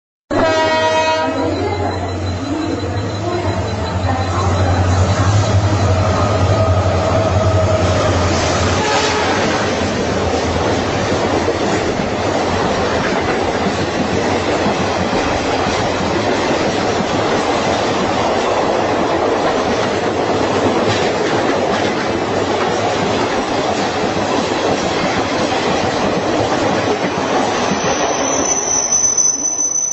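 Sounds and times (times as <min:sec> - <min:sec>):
train wheels rolling on rails: 0:01.1 - 0:29.9.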